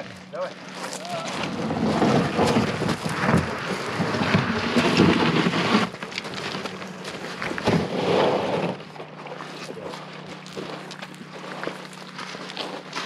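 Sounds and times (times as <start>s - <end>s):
boat hull scraping over gravel: 0.0s - 13.0s.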